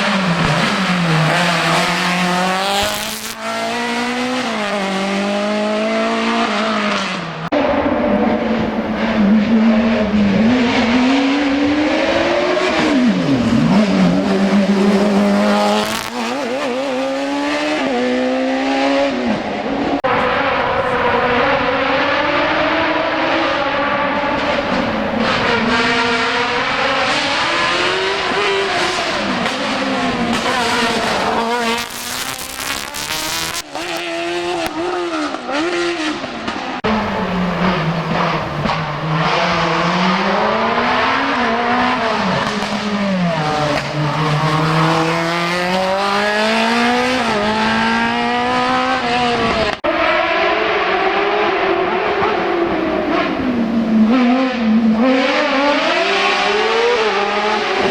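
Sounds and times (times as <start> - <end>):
race car engine accelerating: 0.0 - 57.9.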